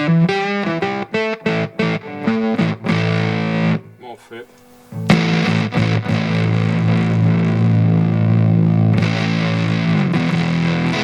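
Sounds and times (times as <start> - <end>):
distorted electric guitar chord: 0.0 - 11.0.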